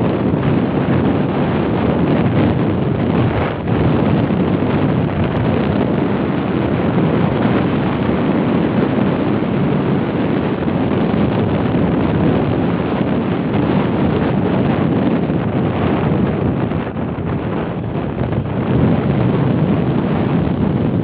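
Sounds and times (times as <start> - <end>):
road and vehicle noise: 0.0 - 21.0
wind buffeting microphone: 0.0 - 21.0.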